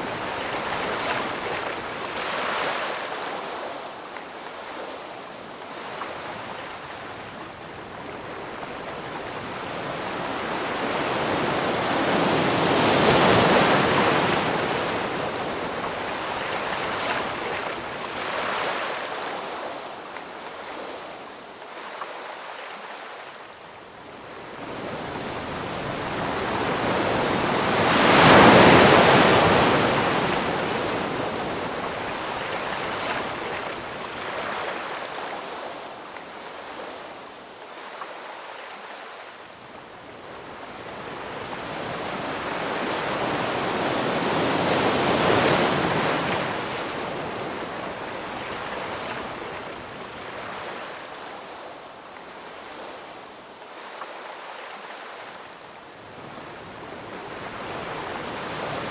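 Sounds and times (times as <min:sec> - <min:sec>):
ocean waves crashing on shore: 0:00.0 - 0:58.9.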